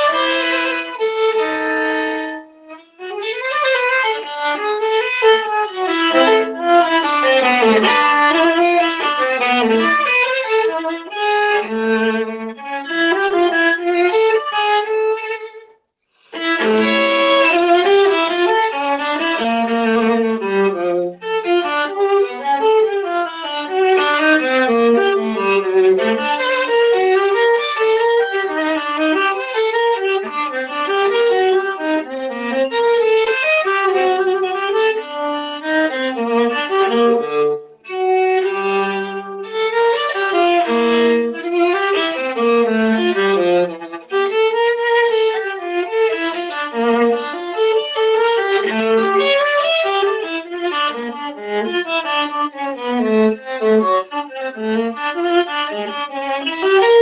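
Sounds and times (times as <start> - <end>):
solo viola playing: 0.0 - 57.0.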